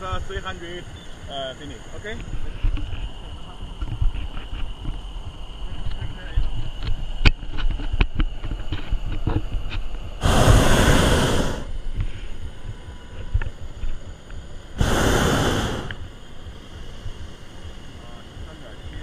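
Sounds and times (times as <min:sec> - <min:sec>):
propane burner roaring: 0:00.0 - 0:19.0.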